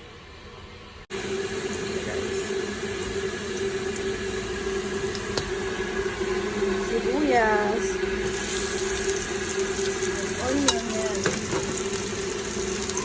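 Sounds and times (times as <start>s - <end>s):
steady low hum: 0.0s - 12.9s
onion sizzling in hot oil: 1.1s - 13.0s.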